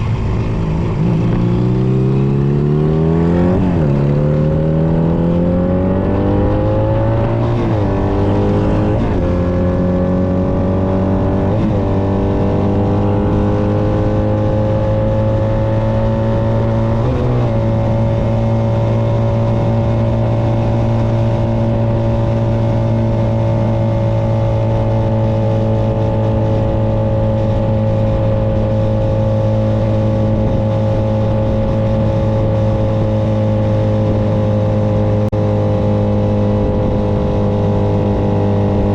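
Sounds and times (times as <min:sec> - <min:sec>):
motorcycle engine under way: 0:00.0 - 0:38.9
wind and road noise: 0:00.0 - 0:38.9.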